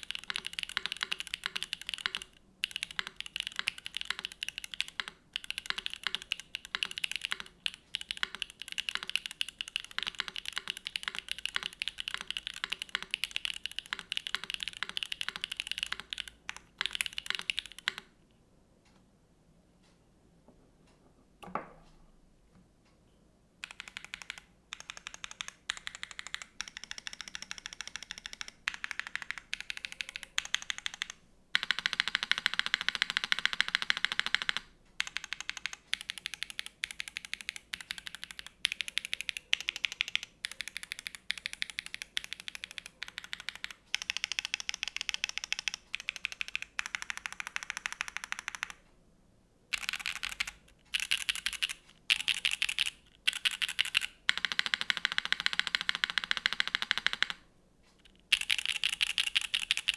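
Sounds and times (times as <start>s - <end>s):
mechanical keyboard typing: 0.0s - 18.2s, 23.6s - 48.8s, 49.7s - 59.9s.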